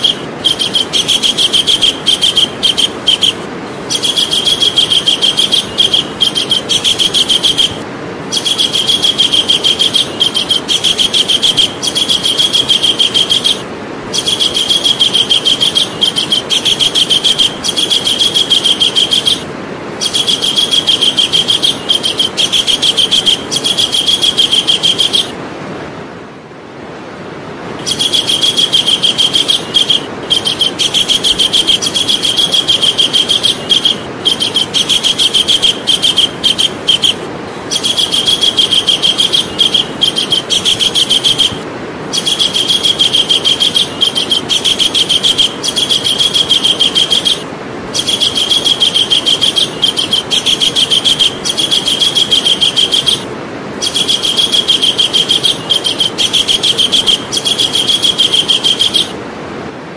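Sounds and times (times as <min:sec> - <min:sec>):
kingfisher calling rapid sharp notes: 0:00.0 - 0:25.4, 0:27.8 - 0:59.2.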